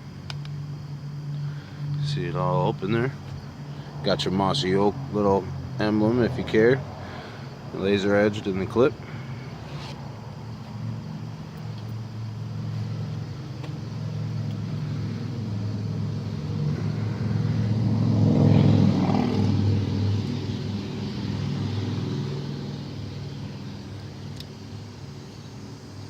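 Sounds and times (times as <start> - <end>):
vehicle engine hum passing: 0.6 - 26.0.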